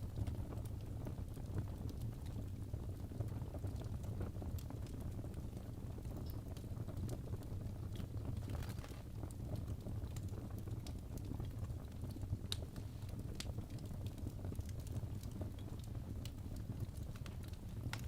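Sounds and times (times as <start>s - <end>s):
low rumble of flames: 0.0s - 18.0s
wood fire crackles and pops: 0.0s - 18.0s.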